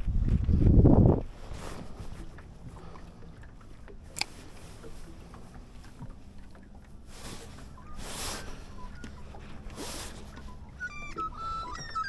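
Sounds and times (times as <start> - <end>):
low steady hum: 0.0 - 12.0
small waves lapping against boat hull: 0.0 - 12.0.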